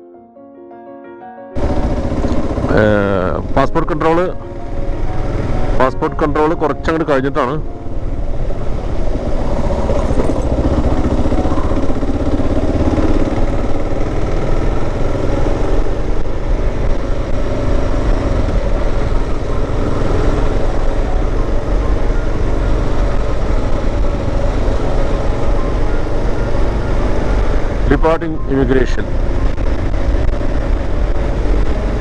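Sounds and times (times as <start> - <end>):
motorcycle engine running: 1.6 - 32.0.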